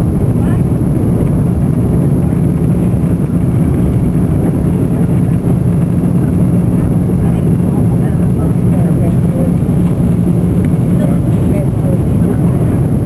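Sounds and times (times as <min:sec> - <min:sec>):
jet engine rumble: 0:00.0 - 0:13.0
rushing air: 0:00.0 - 0:13.0.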